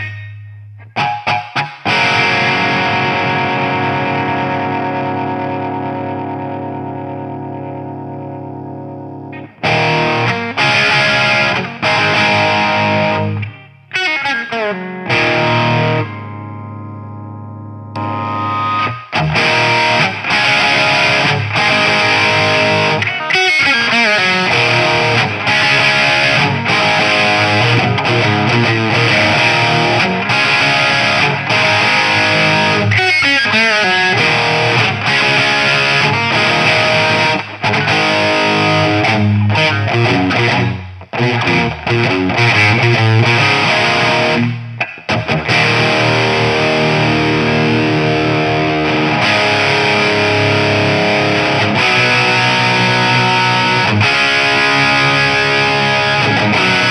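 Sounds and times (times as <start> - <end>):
distorted electric guitar riffing: 0.0 - 56.9.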